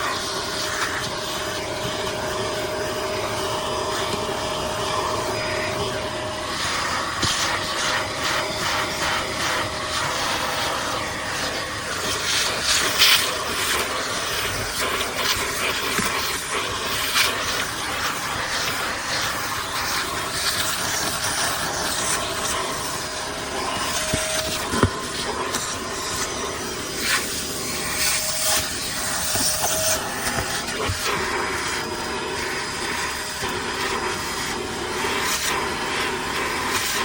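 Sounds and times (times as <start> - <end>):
shop vacuum running: 0.0 - 37.0.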